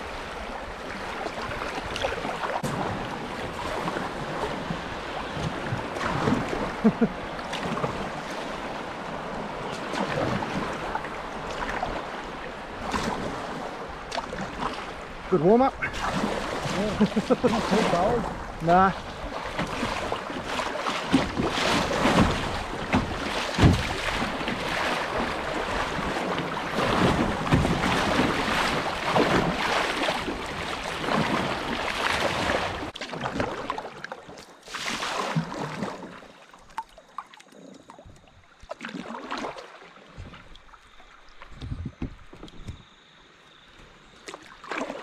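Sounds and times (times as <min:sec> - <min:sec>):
river water rushing and splashing: 0:00.0 - 0:41.6
paddle strokes: 0:00.0 - 0:42.8.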